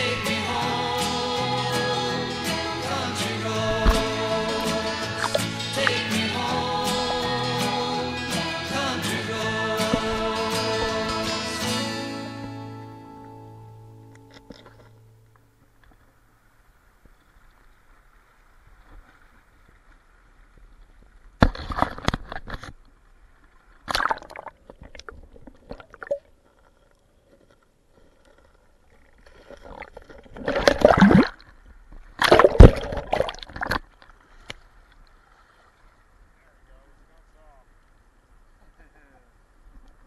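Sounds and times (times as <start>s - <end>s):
river water splashing and gurgling: 0.0s - 13.4s, 14.1s - 36.7s.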